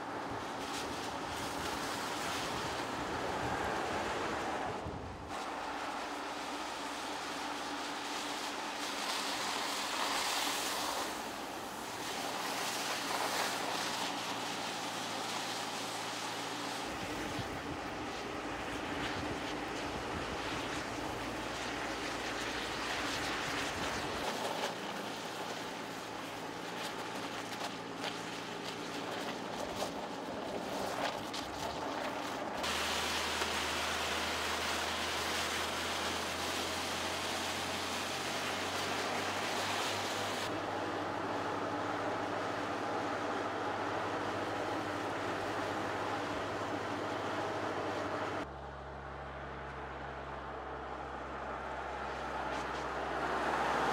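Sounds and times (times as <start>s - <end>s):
tyres hissing on a wet road: 0.0s - 53.9s.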